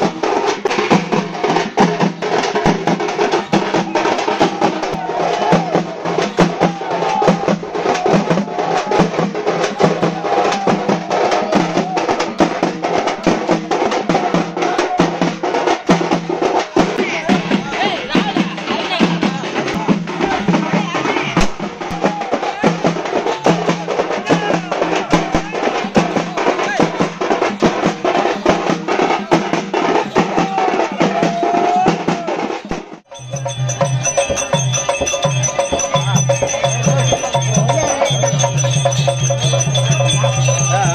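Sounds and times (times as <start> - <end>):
frame drums beaten with sticks: 0.0 - 40.9.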